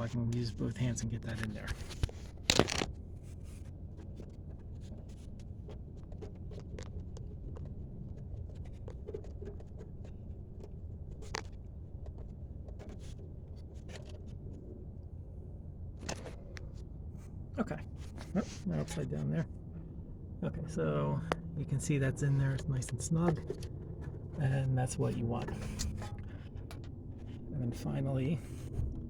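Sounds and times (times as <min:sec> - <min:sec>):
faint clicks and scrapes: 0:00.0 - 0:15.2, 0:15.9 - 0:20.0, 0:22.4 - 0:29.0
steady low hum: 0:00.0 - 0:29.0.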